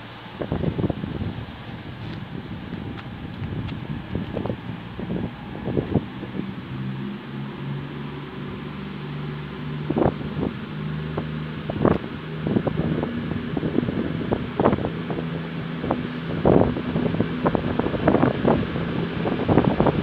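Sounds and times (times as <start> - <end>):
diesel train engines humming: 0.0 - 20.0.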